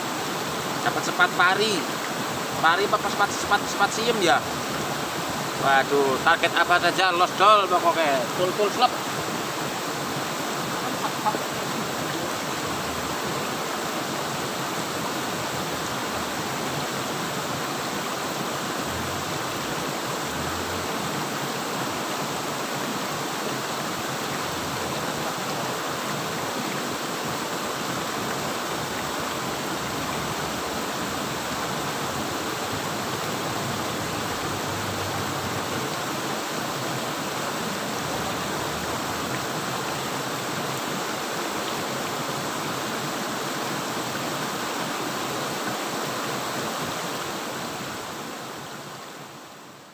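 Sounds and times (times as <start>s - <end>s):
water rushing over a weir: 0.0s - 49.9s.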